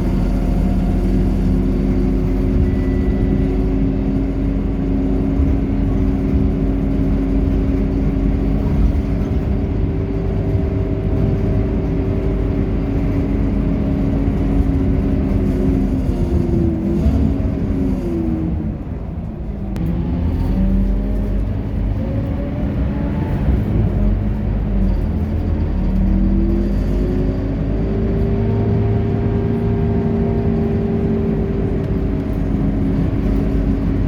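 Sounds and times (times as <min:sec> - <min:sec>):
bus engine droning: 0:00.0 - 0:34.0.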